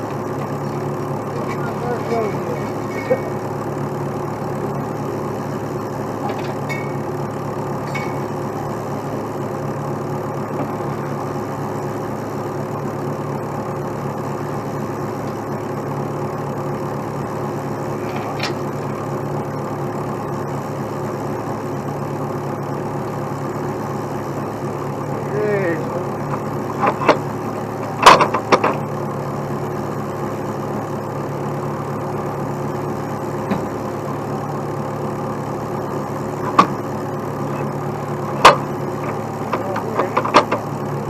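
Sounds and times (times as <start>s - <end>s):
truck diesel engine idling: 0.0s - 41.0s.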